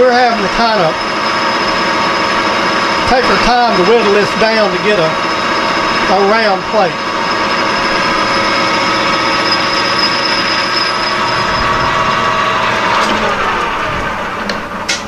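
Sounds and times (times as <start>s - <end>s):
lathe cutting metal: 0.0s - 15.0s
metal lathe whining: 0.0s - 15.0s.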